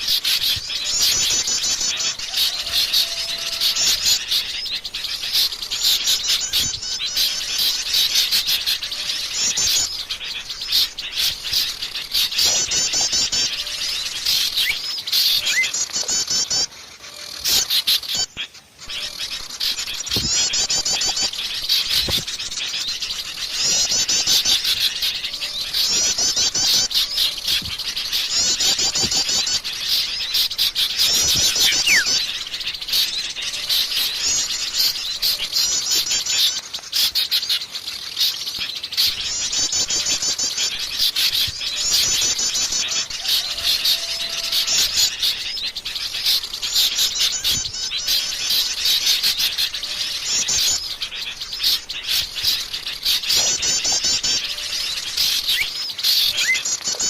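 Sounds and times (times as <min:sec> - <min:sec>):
birds chirping chorus: 0:00.0 - 0:57.0
high rapid bird trill: 0:00.0 - 0:57.0.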